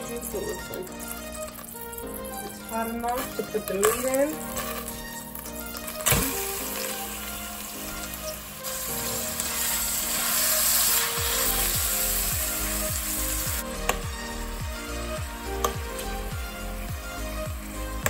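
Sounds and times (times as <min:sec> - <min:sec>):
ground beef sizzling in oil: 0:00.0 - 0:18.0.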